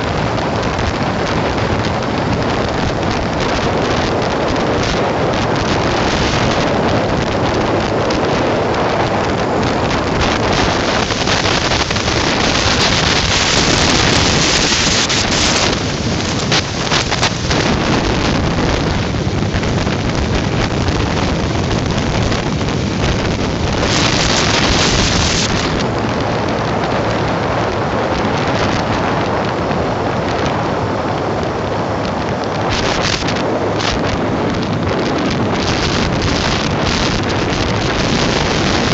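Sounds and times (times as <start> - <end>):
motorcycle running: 0.0 - 38.9
wind rushing over microphone: 0.0 - 38.9.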